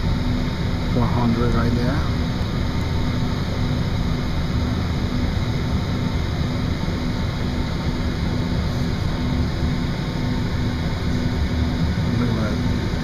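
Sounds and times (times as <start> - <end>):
airliner cabin rumble and hiss: 0.0 - 13.0
faint steady hum: 0.0 - 13.0.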